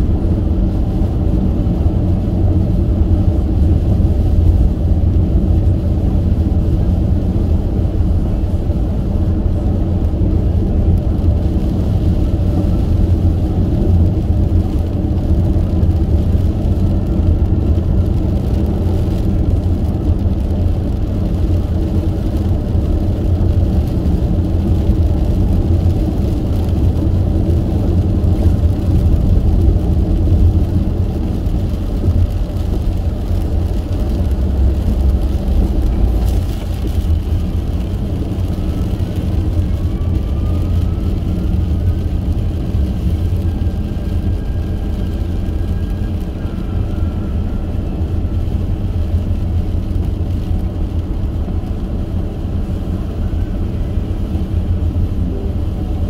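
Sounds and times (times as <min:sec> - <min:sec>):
tyre rumble inside car: 0:00.0 - 0:56.0.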